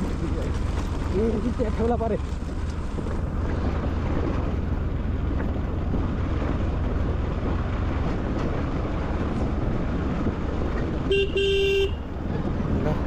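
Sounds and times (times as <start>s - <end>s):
motorcycle running: 0.0s - 13.0s.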